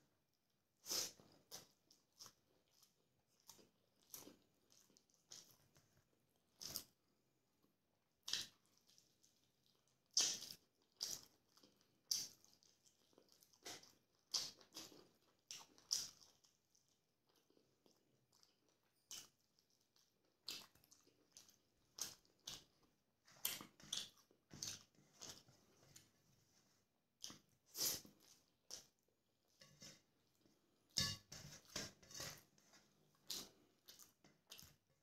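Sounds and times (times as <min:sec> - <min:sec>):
person chewing wetly: 0:00.9 - 0:07.1, 0:08.0 - 0:35.0.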